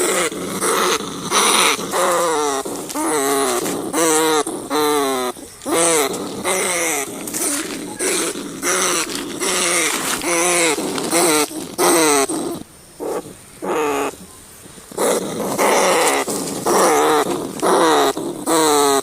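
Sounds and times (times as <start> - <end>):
rats squealing: 0.0 - 19.0.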